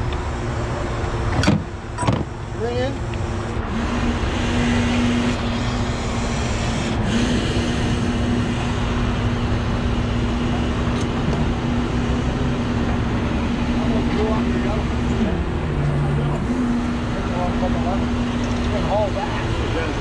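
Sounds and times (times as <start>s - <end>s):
hydraulic system whine: 0.0s - 20.0s
truck engine running: 0.0s - 20.0s.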